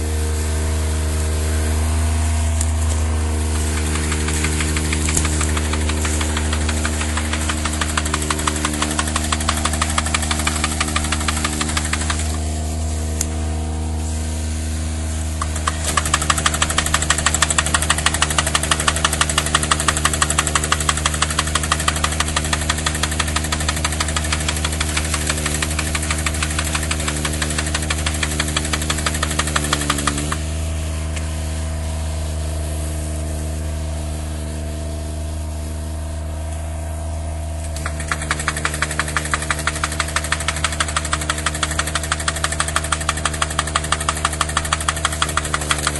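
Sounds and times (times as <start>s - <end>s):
forestry machine engine running: 0.0s - 45.9s.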